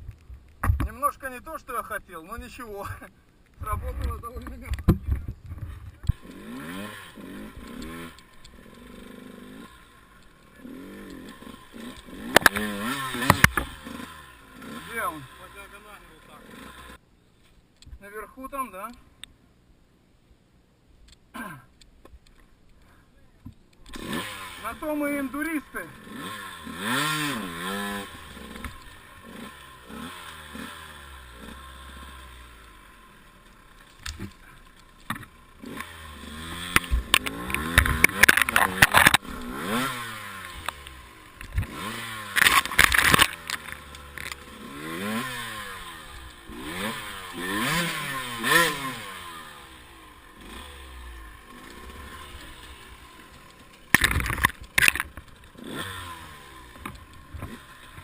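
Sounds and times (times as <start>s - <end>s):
motorcycle engine revving: 3.6s - 17.0s, 23.8s - 58.0s.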